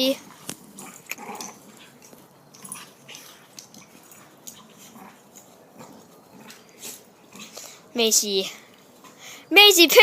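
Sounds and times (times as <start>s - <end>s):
dogs play-wrestling: 0.1s - 7.9s, 8.6s - 9.2s.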